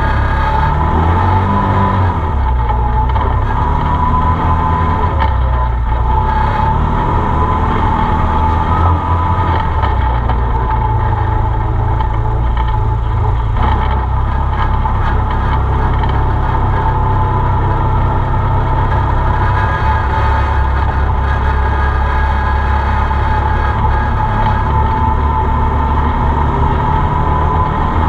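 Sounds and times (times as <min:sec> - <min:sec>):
steady whine: 0:00.0 - 0:28.0
vehicle engine running: 0:00.0 - 0:28.0.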